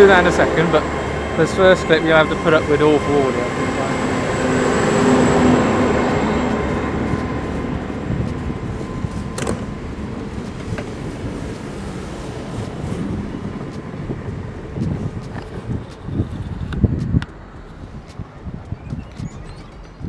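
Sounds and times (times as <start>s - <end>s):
train humming past: 0.0s - 20.0s.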